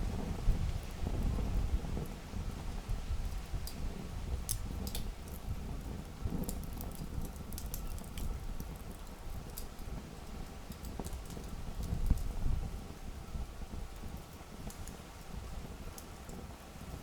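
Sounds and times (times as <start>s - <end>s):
campfire crackling: 0.1s - 17.0s.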